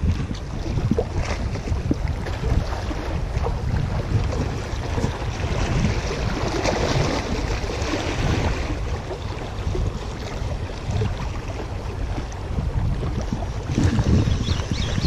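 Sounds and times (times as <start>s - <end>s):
water lapping against rocks: 0.0s - 15.0s
wind buffeting microphone: 0.0s - 15.0s.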